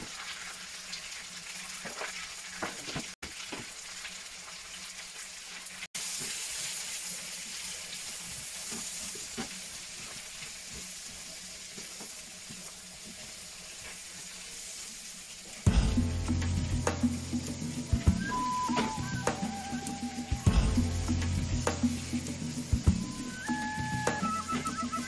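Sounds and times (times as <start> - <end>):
vegetables sizzling in a pan: 0.0 - 25.0.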